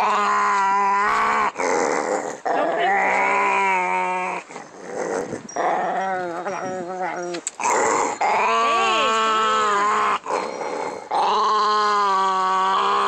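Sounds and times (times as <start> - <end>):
small dog growling and whining: 0.0 - 13.0.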